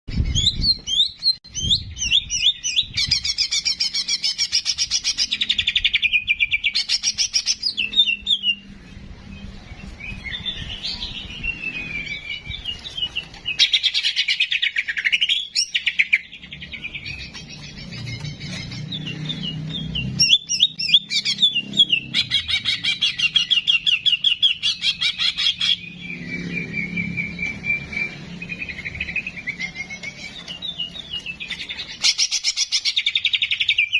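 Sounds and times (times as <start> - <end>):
bird trilling and chattering: 0.1 - 8.8, 9.4 - 33.9.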